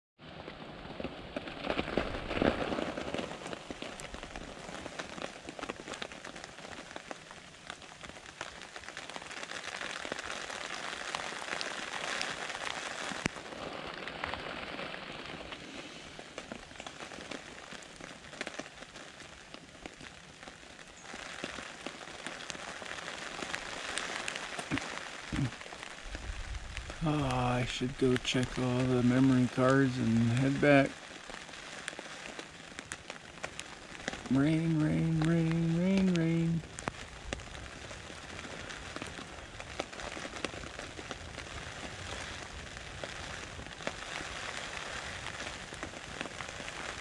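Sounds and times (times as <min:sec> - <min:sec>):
rain on fabric roof: 0:00.2 - 0:47.0.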